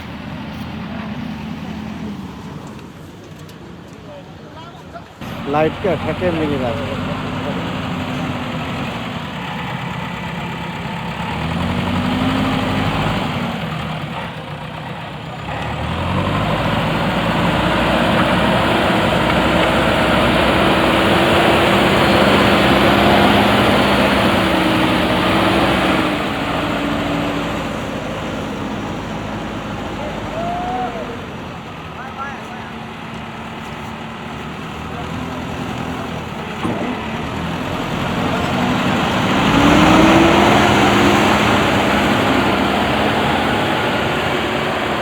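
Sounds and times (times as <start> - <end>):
diesel engine running: 0.0 - 3.9, 5.0 - 45.0.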